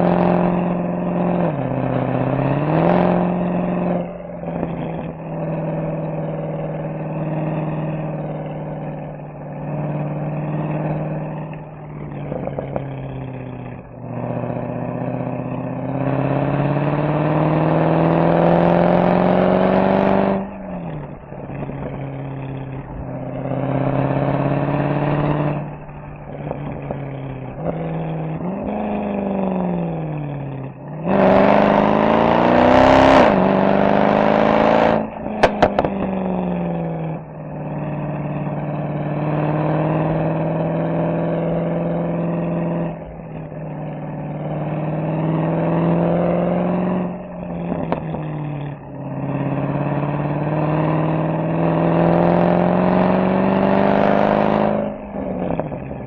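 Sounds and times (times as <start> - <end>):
car engine revving and accelerating: 0.0 - 56.0.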